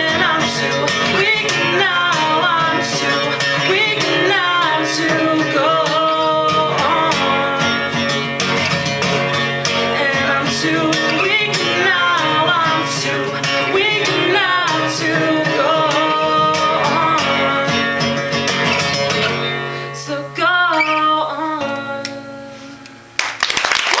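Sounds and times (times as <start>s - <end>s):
person singing: 0.0s - 18.4s, 19.7s - 23.0s
acoustic guitar: 0.0s - 23.5s.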